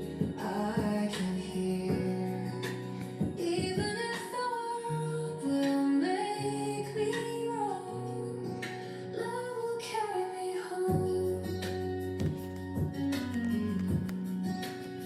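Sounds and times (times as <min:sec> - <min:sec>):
soft instrumental accompaniment: 0:00.0 - 0:15.0.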